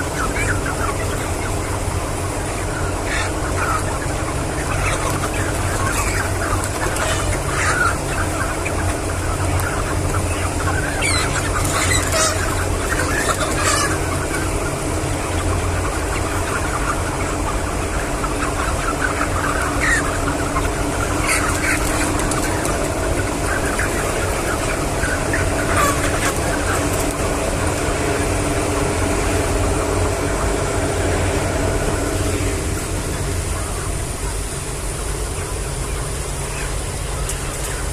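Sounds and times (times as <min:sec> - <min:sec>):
chickens calling: 0:00.0 - 0:37.9
low mechanical hum: 0:00.0 - 0:37.9.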